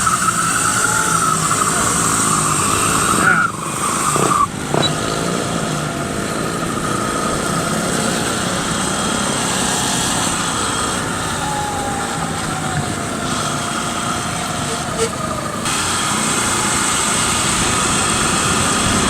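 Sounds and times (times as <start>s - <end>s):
electric bike motor hum: 0.0s - 19.0s.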